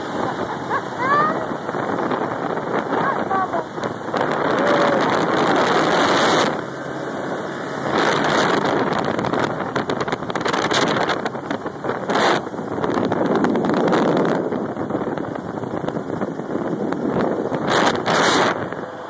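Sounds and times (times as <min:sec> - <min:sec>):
motor vehicle running: 0:00.0 - 0:19.0
wind buffeting microphone: 0:00.0 - 0:19.0.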